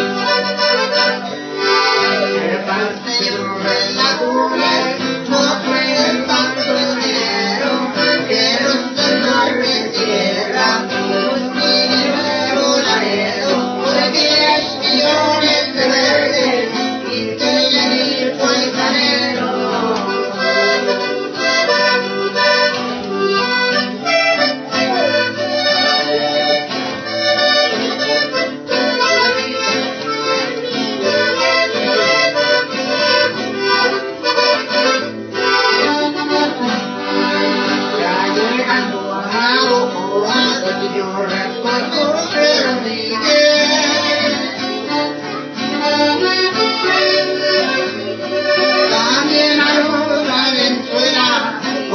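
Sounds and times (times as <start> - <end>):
accordion music: 0.0 - 51.9.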